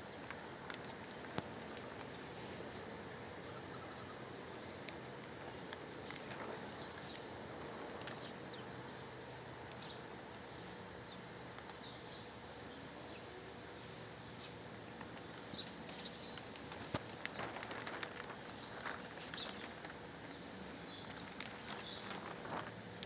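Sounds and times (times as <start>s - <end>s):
small birds chirping: 0.0s - 23.0s
steady background hiss: 0.0s - 23.0s.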